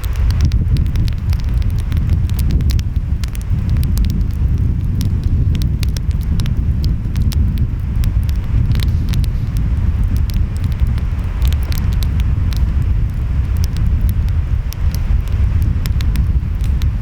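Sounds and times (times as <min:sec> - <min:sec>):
wind: 0:00.0 - 0:17.0
wood fire crackling: 0:00.0 - 0:17.0.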